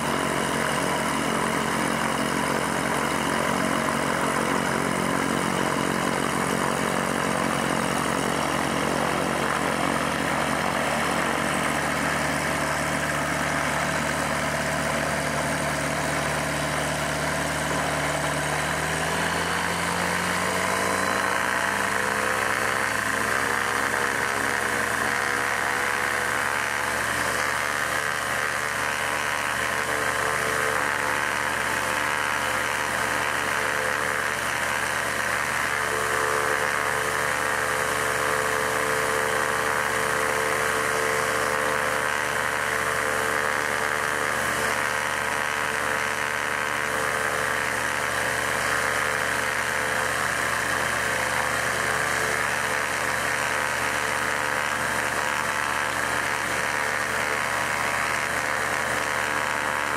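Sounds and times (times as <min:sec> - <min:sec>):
aircraft engine idling: 0:00.0 - 0:59.9.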